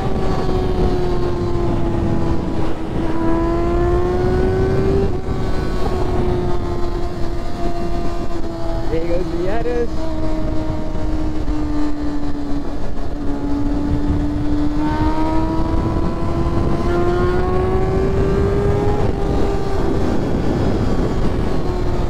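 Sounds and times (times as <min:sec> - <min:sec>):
motorcycle engine at high revs: 0:00.0 - 0:22.0
wind on microphone: 0:00.0 - 0:22.0.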